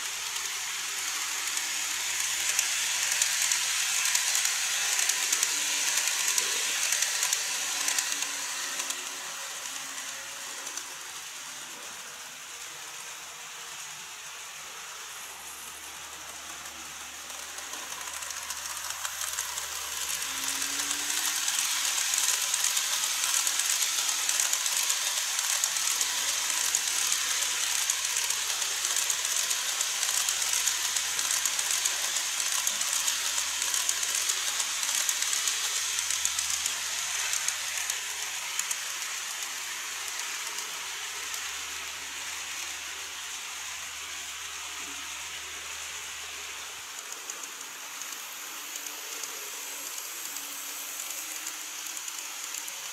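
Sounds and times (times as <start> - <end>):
model trains running on track: 0.0 - 52.9.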